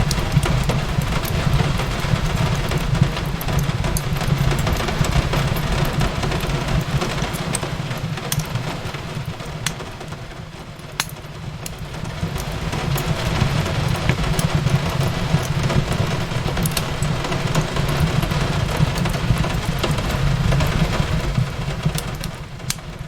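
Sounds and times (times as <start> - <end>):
fireplace crackling: 0.0 - 23.0
rain on a window: 0.0 - 23.0.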